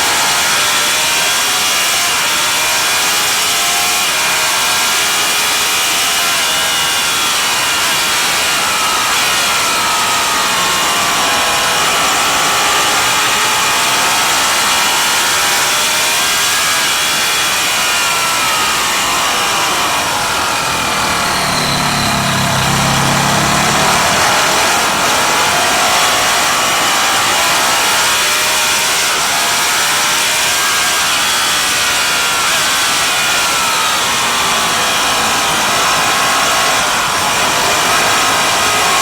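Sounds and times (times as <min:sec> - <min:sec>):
racing motorcycle engine revving: 0:00.0 - 0:39.0.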